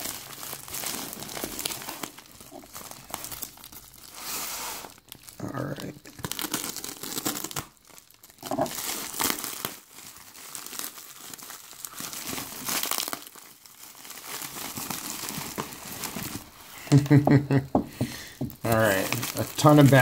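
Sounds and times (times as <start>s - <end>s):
plastic packaging crinkling: 0.0s - 17.1s, 17.7s - 20.0s.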